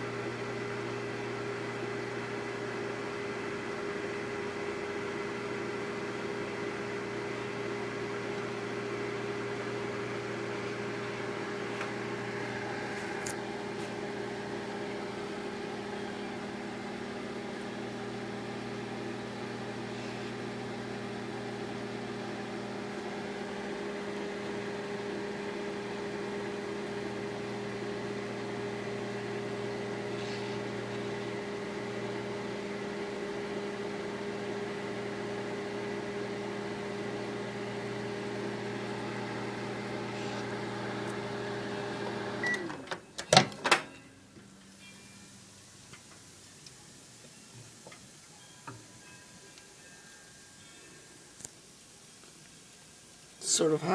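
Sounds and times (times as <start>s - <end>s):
microwave oven humming: 0.0s - 53.9s.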